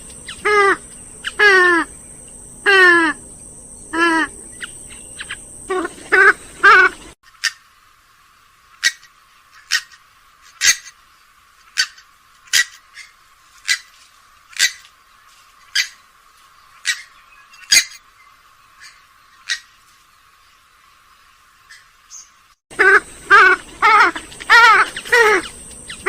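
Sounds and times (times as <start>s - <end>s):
swamphen calling: 0.0s - 7.8s, 8.8s - 11.0s, 11.6s - 14.9s, 15.6s - 19.8s, 21.6s - 26.0s.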